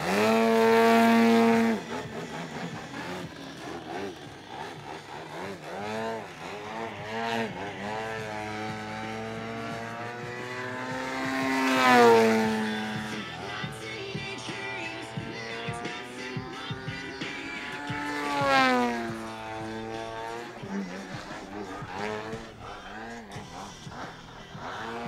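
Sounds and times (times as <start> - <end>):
model plane engine: 0.0 - 25.0.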